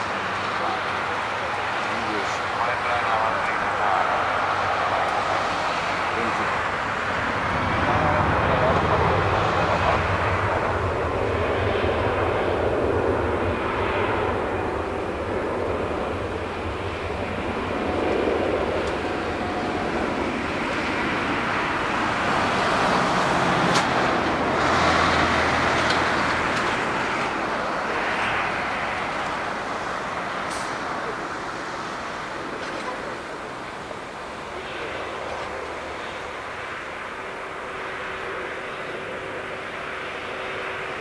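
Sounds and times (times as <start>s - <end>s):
jet engines at takeoff thrust: 0.0s - 41.0s.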